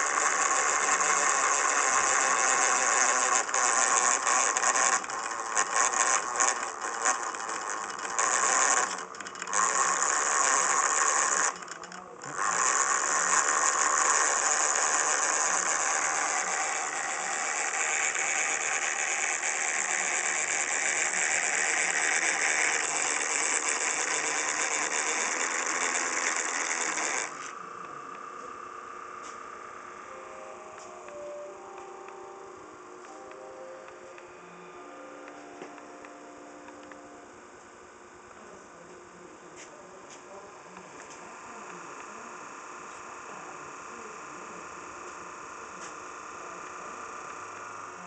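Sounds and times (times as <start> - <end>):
small electric motor whirring: 0.0 - 48.0.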